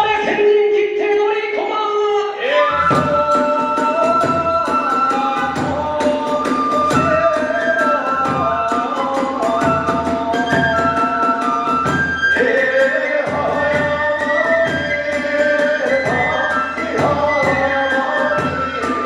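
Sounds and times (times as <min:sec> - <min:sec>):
bamboo flute melody: 0:02.6 - 0:19.0
drum beats: 0:02.7 - 0:19.0.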